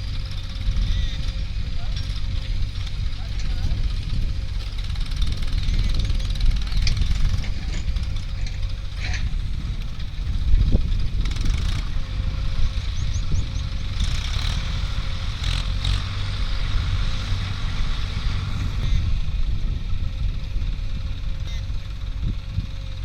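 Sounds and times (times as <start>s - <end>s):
diesel engines rumbling: 0.0s - 23.0s
machinery clatter: 0.0s - 23.0s.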